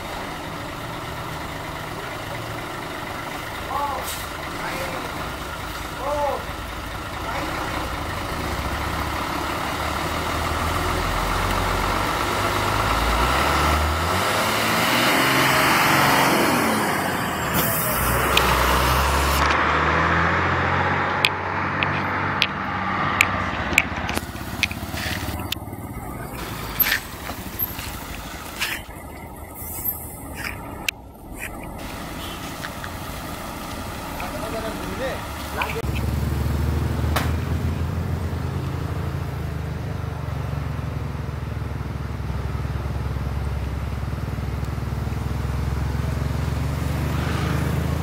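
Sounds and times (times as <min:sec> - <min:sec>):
truck diesel engine revving: 0:00.0 - 0:48.0.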